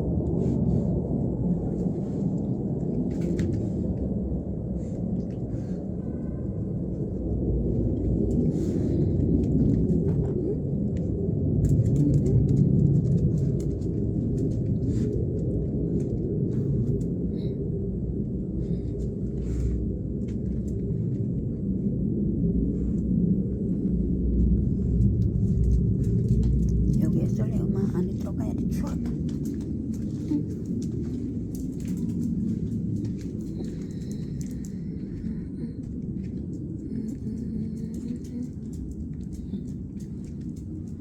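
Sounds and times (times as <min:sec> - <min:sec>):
airplane rumbling overhead: 0:00.0 - 0:41.0.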